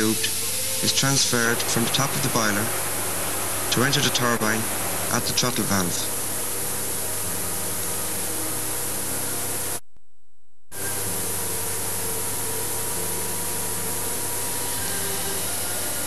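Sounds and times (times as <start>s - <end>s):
steady hiss: 0.0s - 9.8s, 10.8s - 16.0s.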